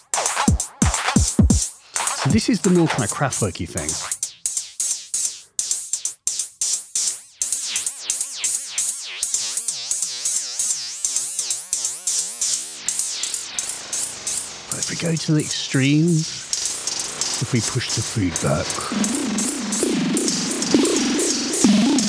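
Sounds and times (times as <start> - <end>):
synthesized hi-hat hits with flanging: 0.0 - 22.0.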